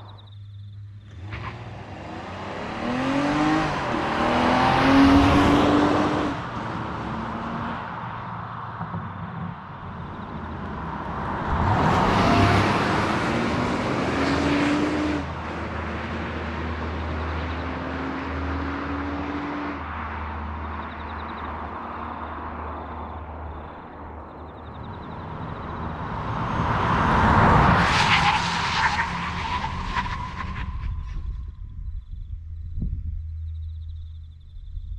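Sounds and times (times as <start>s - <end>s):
car engine driving: 0.0s - 34.9s.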